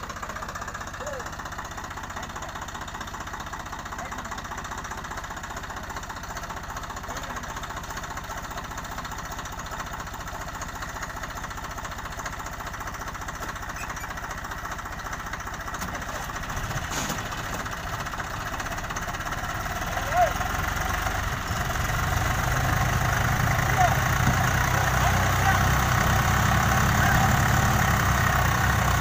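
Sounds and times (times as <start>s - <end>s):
diesel tractor engine knocking: 0.0s - 29.0s.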